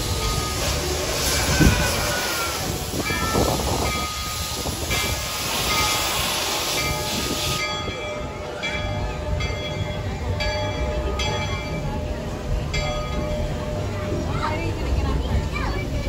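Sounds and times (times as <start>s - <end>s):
steam engine chuffs: 0.0s - 16.0s
steam locomotive hissing: 0.0s - 16.0s.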